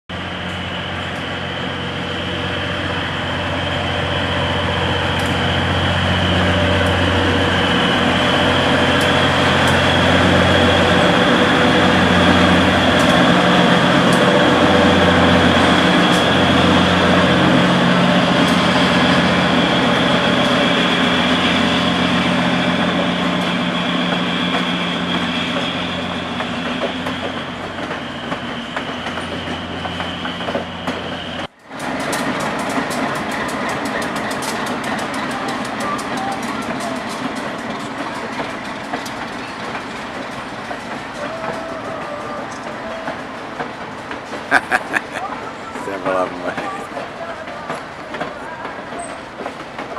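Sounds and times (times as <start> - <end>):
diesel locomotive engine drone: 0.1 - 49.9
train coaches rolling rumble: 0.1 - 49.9
wheels clicking on rails: 3.5 - 49.9.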